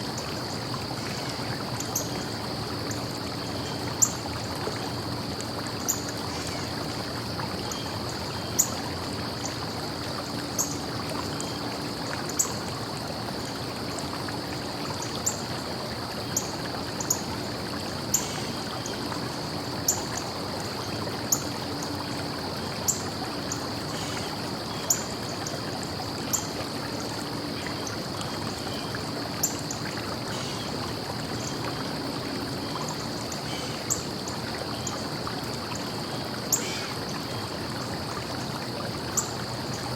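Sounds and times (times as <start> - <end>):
small stream running: 0.0 - 39.9.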